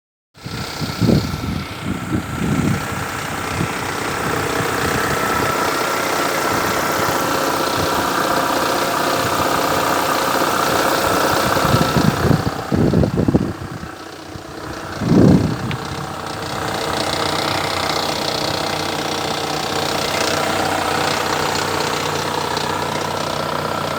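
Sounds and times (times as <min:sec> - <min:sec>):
car engine idling: 0:00.4 - 0:23.9.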